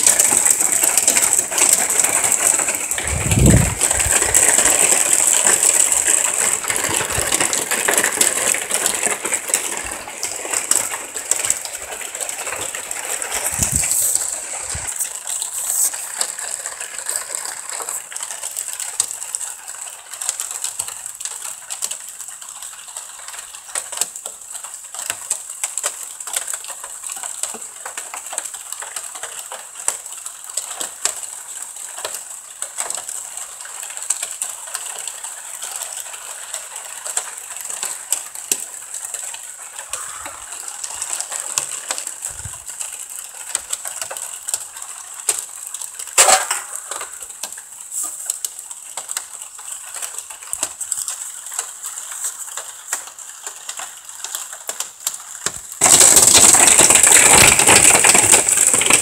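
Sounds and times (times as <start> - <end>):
rain pattering on hard surfaces: 0.0 - 59.0.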